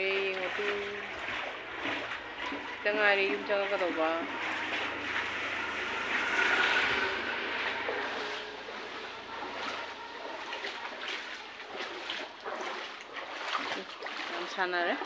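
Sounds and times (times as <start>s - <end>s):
floodwater sloshing: 0.0s - 15.0s
splashy steps in water: 0.0s - 15.0s.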